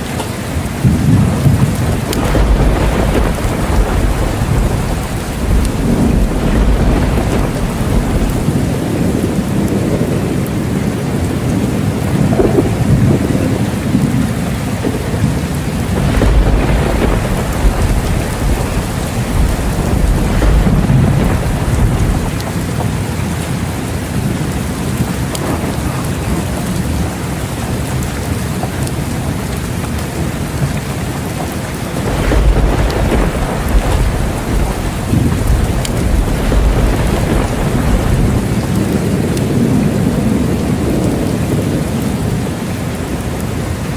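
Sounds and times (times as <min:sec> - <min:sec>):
heavy rain: 0:00.0 - 0:43.9
rolling thunder: 0:00.0 - 0:43.9.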